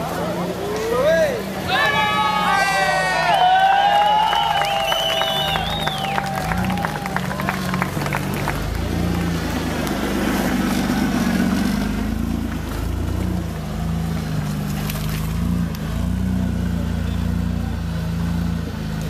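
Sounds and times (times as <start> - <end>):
truck diesel engine revving: 0.0 - 19.0.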